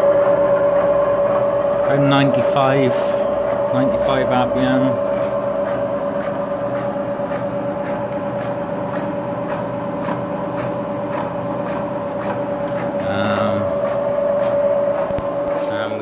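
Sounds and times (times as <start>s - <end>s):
cutter scraping metal: 0.0s - 16.0s
milling machine whining: 0.0s - 16.0s.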